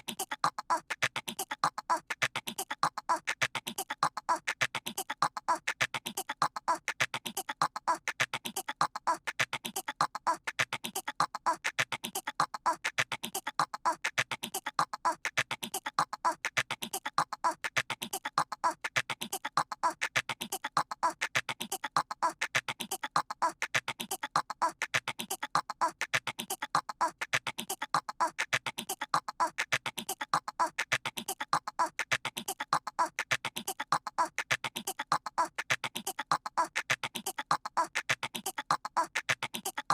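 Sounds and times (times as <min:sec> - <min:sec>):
cartoon voice chattering like squirrel: 0:00.0 - 0:39.9.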